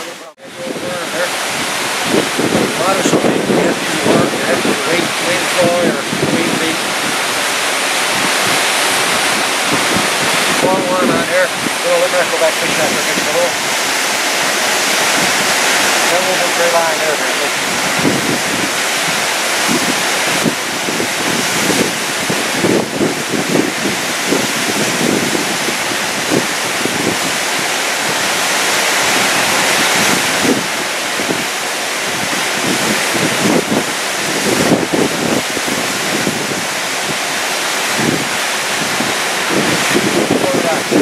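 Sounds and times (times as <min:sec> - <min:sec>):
fast-flowing water rushing: 0:00.0 - 0:41.0
wind buffeting microphone: 0:00.0 - 0:41.0.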